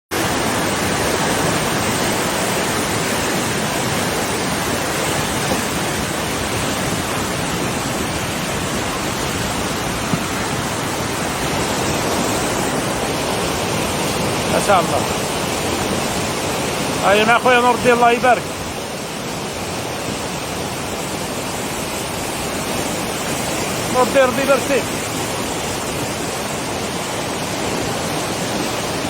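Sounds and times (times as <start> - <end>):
waterfall rushing: 0.1 - 29.0.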